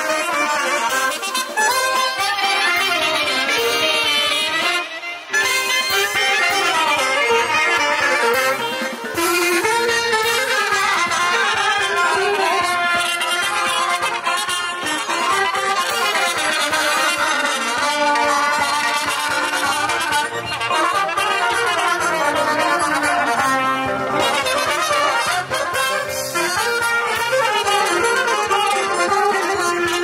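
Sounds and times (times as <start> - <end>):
brass band music: 0.0 - 30.0.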